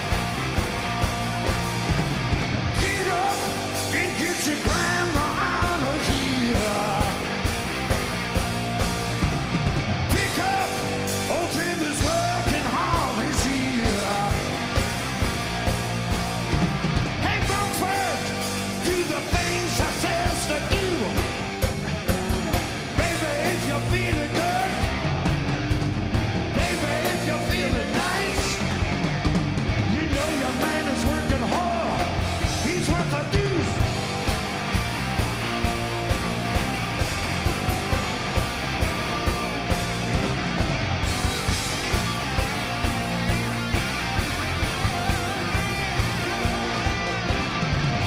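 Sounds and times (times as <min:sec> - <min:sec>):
electric guitars: 0:00.0 - 0:48.0
shouted rock vocal: 0:00.0 - 0:48.0
steady drum beat: 0:00.0 - 0:48.0.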